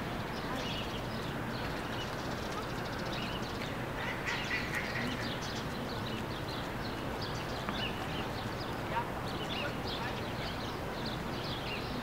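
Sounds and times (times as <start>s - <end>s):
birds chirping: 0.0s - 12.0s
steady background noise: 0.0s - 12.0s.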